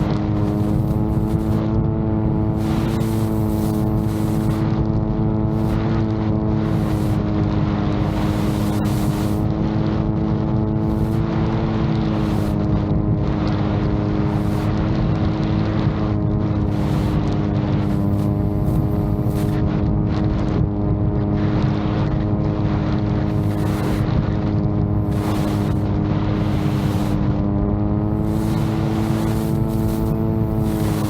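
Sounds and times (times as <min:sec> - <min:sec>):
drone propellers droning: 0:00.0 - 0:31.0
wind buffeting microphone: 0:00.0 - 0:31.0.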